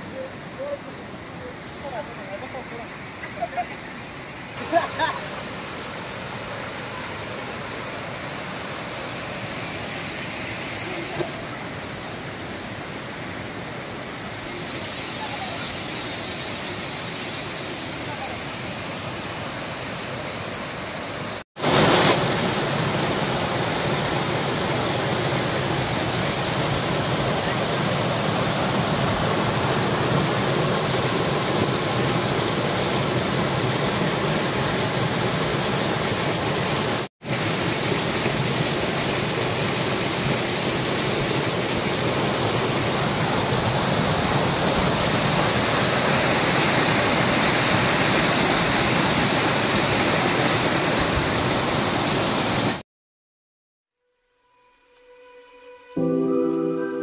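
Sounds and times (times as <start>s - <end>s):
waterfall rushing over rocks: 0.0s - 52.8s.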